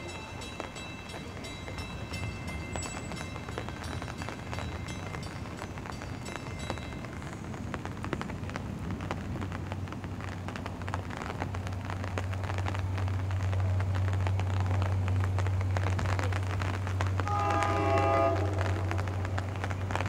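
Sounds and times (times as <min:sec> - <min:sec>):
diesel locomotive rumble: 0:00.0 - 0:20.0
raindrops ticking on umbrella: 0:00.0 - 0:20.0.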